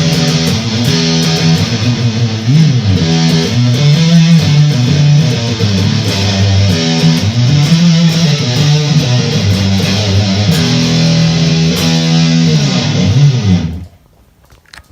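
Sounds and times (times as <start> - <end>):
fuzz electric guitar chords: 0.0 - 14.0.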